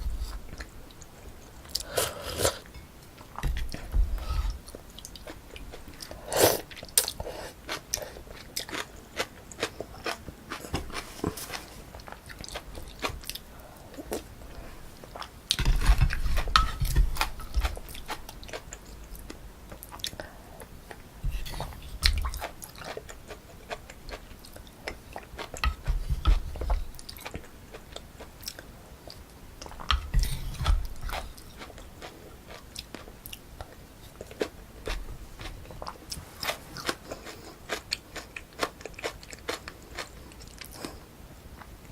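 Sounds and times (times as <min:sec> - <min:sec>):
close chewing and biting: 0:03.3 - 0:41.0.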